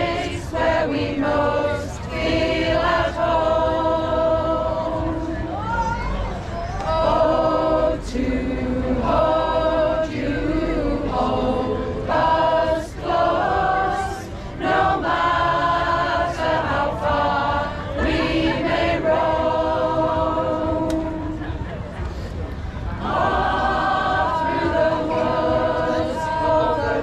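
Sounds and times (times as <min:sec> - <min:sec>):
choir singing: 0:00.0 - 0:05.6, 0:06.8 - 0:21.4, 0:23.0 - 0:27.0.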